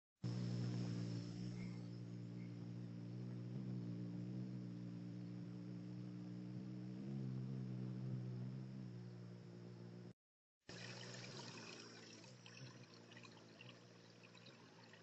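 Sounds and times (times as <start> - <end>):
hummingbird wings humming: 0.2 - 15.0.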